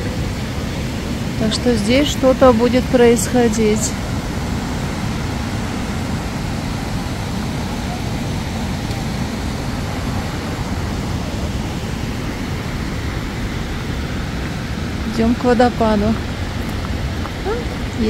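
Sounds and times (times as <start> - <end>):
rushing mountain stream: 0.0 - 18.0.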